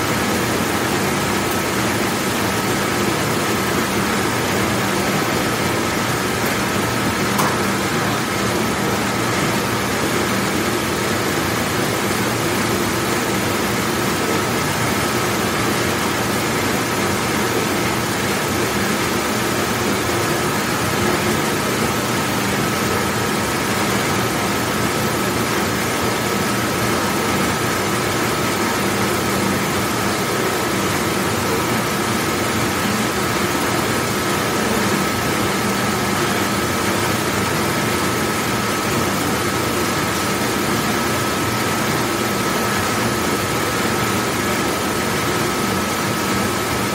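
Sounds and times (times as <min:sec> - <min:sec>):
dishwashing machine running: 0:00.0 - 0:46.9.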